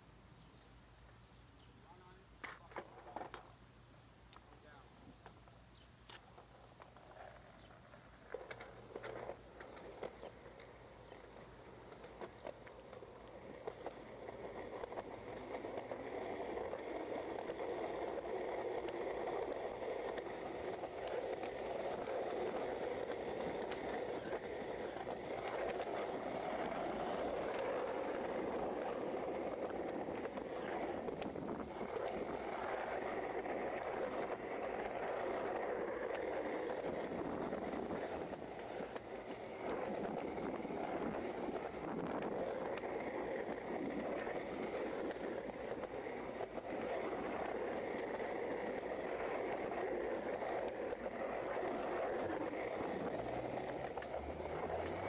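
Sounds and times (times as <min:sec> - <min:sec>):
skateboard wheels rolling on pavement: 0:00.0 - 0:55.0
wheels clicking over cracks: 0:05.1 - 0:55.0.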